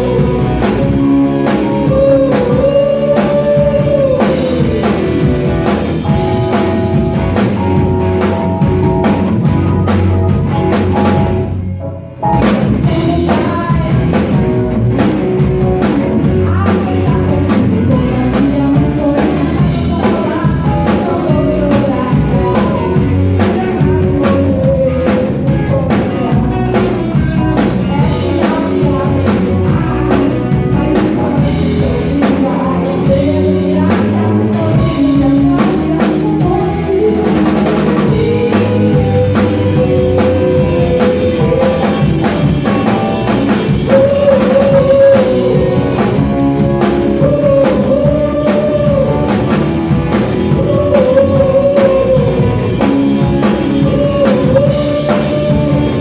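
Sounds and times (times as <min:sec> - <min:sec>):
person singing long notes: 0:00.0 - 0:07.0, 0:12.8 - 0:14.6, 0:15.7 - 0:56.0
rock band playing live: 0:00.0 - 0:56.0.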